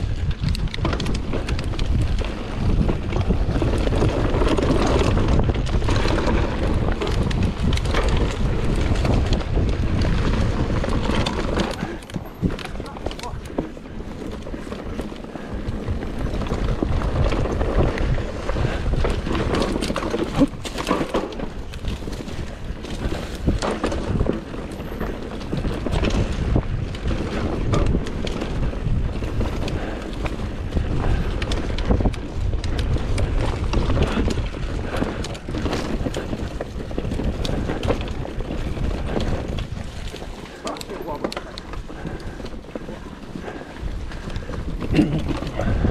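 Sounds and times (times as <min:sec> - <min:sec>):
wind buffeting on microphone: 0:00.0 - 0:45.9.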